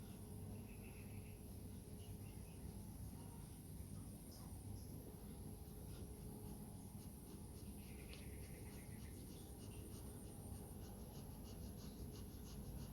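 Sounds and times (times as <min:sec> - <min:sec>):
low room hum: 0:00.0 - 0:12.9.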